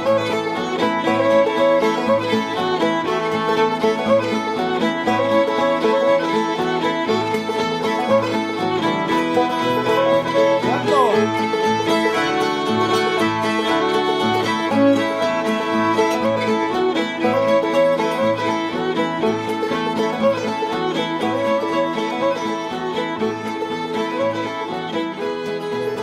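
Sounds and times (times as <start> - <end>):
banjo guitar and mandolin: 0.0 - 26.0
fiddles playing in unison: 0.0 - 26.0.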